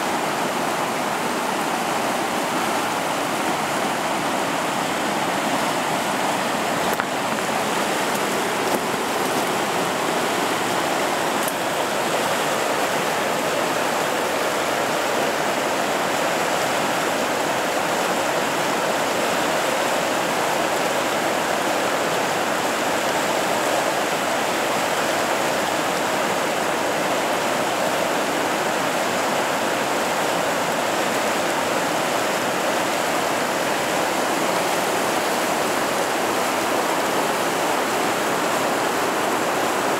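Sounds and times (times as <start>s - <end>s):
rapids rushing water: 0.0s - 39.9s.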